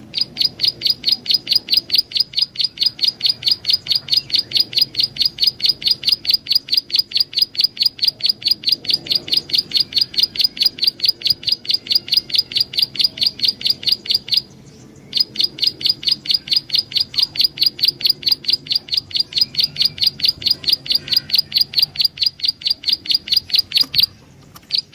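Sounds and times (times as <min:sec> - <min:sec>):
bird chirping: 0:00.0 - 0:24.9.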